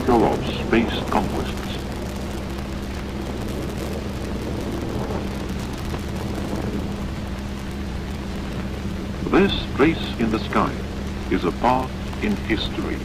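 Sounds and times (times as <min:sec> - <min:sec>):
rocket engines roaring: 0:00.0 - 0:13.0.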